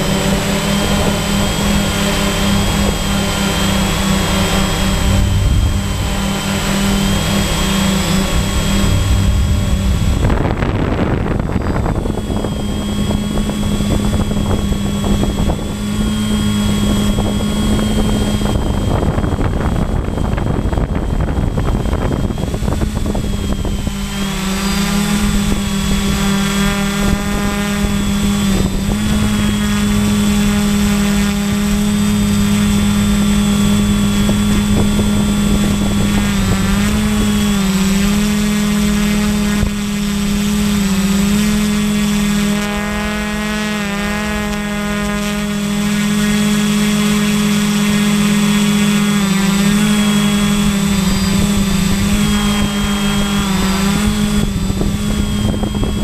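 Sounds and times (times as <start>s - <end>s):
drone buzzing whine: 0.0s - 56.0s.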